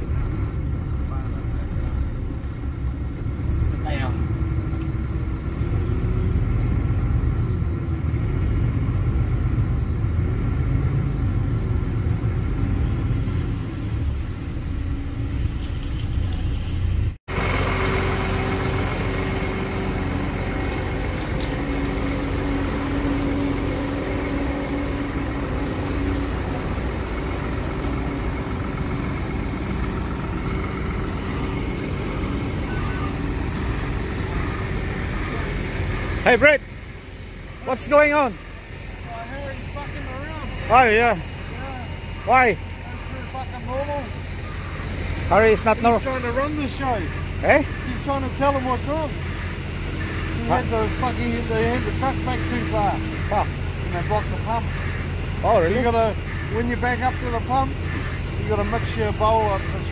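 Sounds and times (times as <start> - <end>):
diesel truck engines idling: 0.0 - 59.9.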